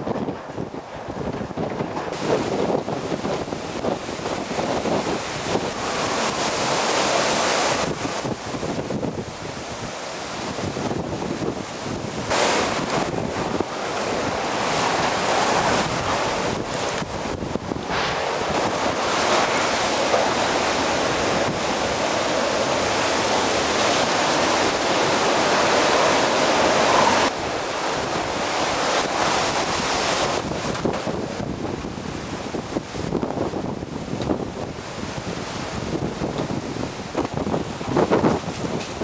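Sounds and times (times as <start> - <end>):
hurricane-force wind: 0.0 - 39.0
wind buffeting microphone: 0.0 - 39.0.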